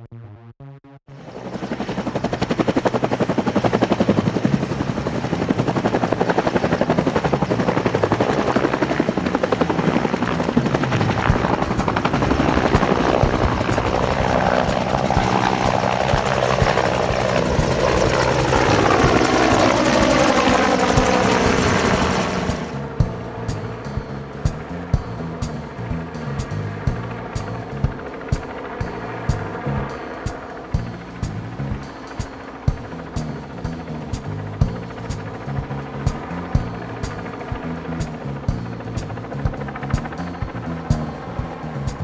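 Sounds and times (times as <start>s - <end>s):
distant helicopter: 1.1s - 42.0s
helicopter rotor and turbine whine: 1.1s - 42.0s.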